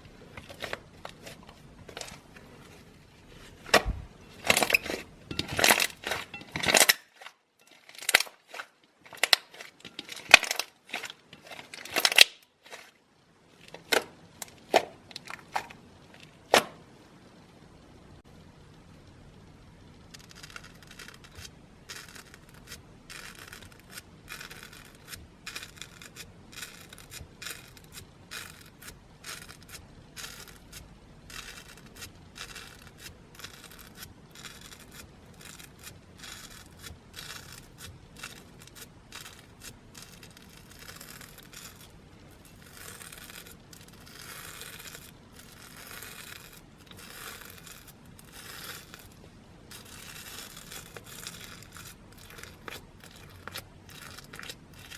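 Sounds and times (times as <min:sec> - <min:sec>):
slime squishing and crackling: 0:03.2 - 0:13.0, 0:20.0 - 0:54.9.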